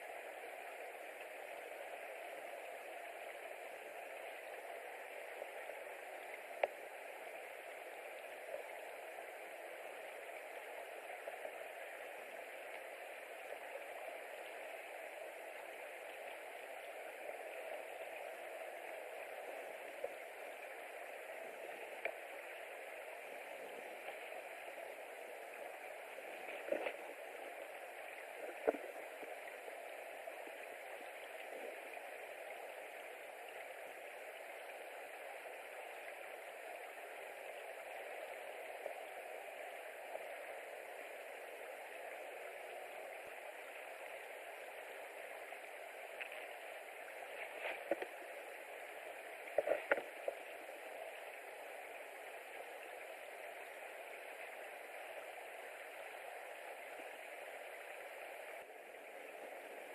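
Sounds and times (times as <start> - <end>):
hissing outdoor background noise: 0.0 - 59.9.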